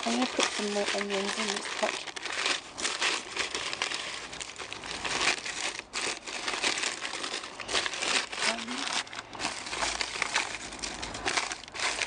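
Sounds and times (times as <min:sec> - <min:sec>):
newspaper rustling and crinkling: 0:00.0 - 0:12.0.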